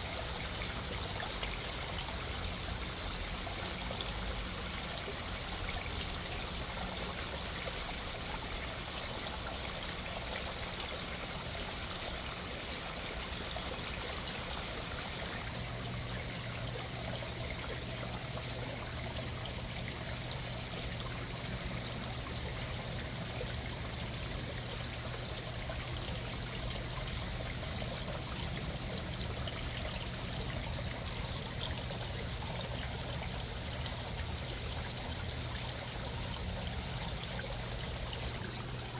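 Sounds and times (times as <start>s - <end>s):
low steady hum: 0.0s - 38.9s
waterfall running over stone: 0.0s - 38.9s.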